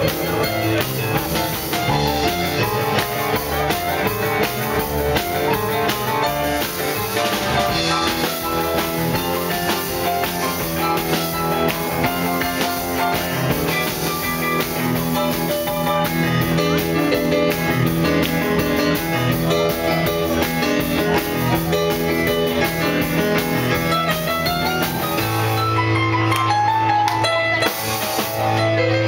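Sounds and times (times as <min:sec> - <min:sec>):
drum kit: 0:00.0 - 0:29.0
electric guitar: 0:00.0 - 0:29.0.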